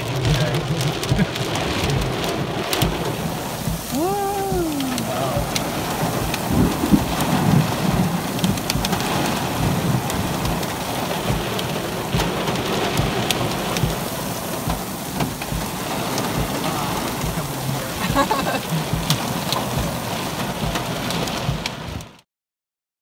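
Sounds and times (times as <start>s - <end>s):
low rumble: 0.0s - 21.9s
rain and hail on car: 0.0s - 22.2s.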